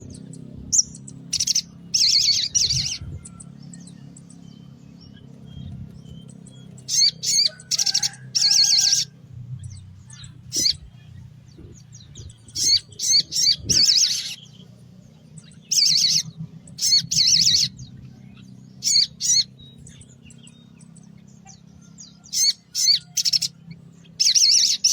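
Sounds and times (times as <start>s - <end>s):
bird chattering calls: 0.0s - 4.5s, 5.1s - 14.7s, 15.3s - 20.5s, 22.2s - 24.9s.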